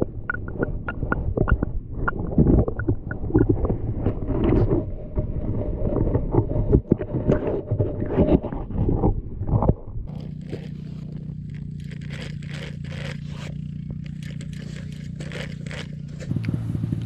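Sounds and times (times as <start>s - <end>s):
muffled underwater rumbling: 0.0s - 17.0s.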